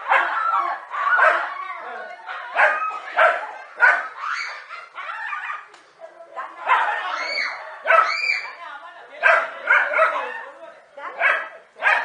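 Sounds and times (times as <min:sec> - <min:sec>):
dogs barking: 0:00.0 - 0:01.6, 0:02.2 - 0:05.7, 0:06.6 - 0:08.6, 0:09.2 - 0:12.0.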